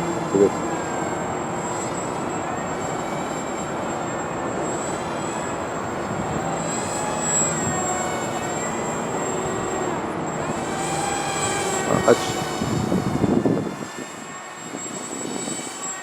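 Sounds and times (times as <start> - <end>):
high-pitched electric motor whine: 0.0 - 16.0
wind on microphone: 0.0 - 16.0.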